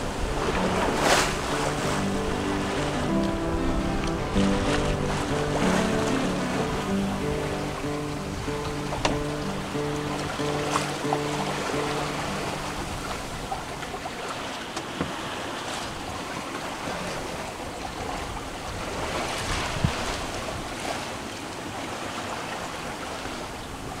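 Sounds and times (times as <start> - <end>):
water rushing along a hull: 0.0 - 24.0
wind: 0.0 - 24.0.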